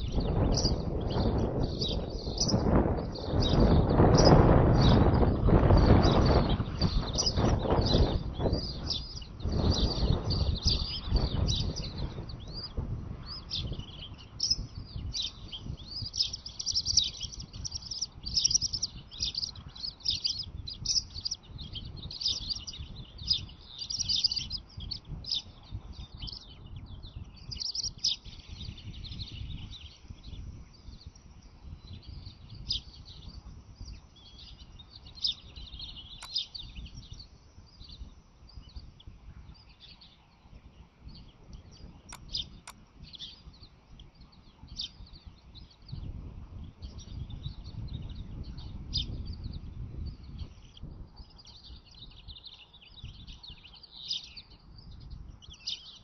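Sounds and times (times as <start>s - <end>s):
bird chirping rapidly: 0.0s - 40.4s, 46.8s - 56.0s.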